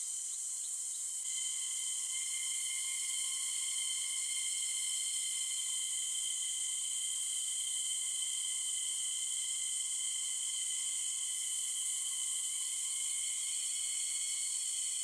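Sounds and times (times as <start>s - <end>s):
forest insects chorus: 0.0s - 15.0s.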